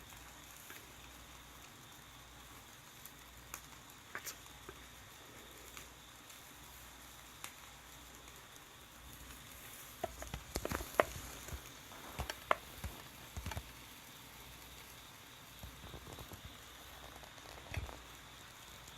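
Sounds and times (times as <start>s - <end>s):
faint steady hiss: 0.0s - 18.9s
fire crackling and popping: 0.0s - 18.9s.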